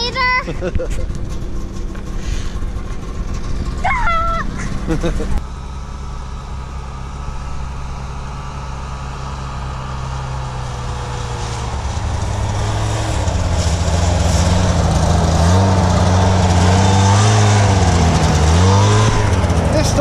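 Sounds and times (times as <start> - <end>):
snowmobile engine revving: 0.0 - 5.4, 6.4 - 20.0
snowmobile approaching: 0.0 - 20.0
snowmobile engine idling: 0.0 - 20.0.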